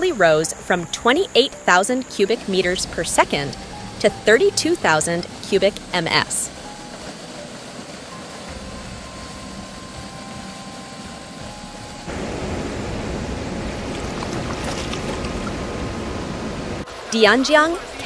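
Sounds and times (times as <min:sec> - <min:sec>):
rushing floodwater: 0:00.0 - 0:18.0.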